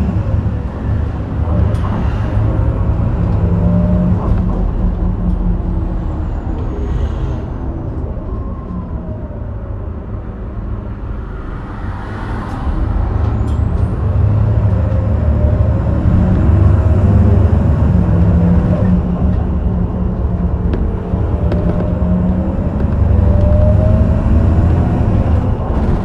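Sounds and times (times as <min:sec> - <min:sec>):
bus diesel engine accelerating: 0:00.0 - 0:26.0.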